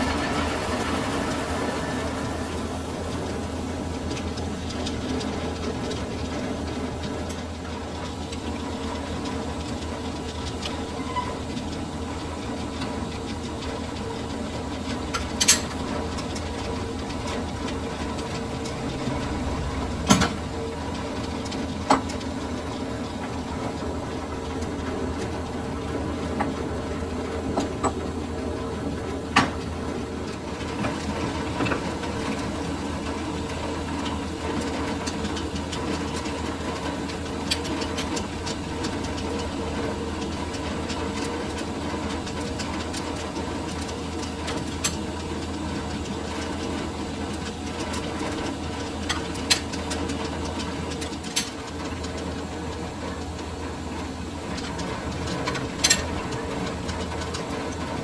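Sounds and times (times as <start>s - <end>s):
lathe running: 0.0s - 51.0s.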